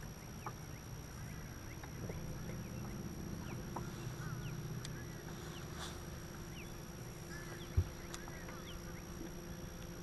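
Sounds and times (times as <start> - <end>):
low steady hum: 0.0 - 10.0
faint bird calls: 0.2 - 9.9.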